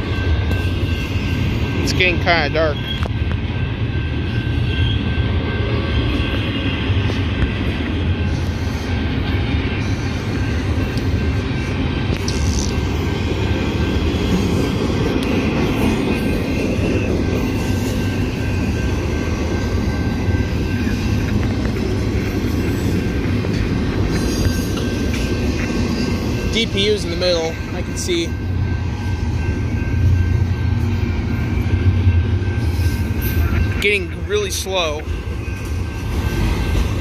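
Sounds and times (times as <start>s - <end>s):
freight train rumbling and clattering: 0.0s - 37.0s.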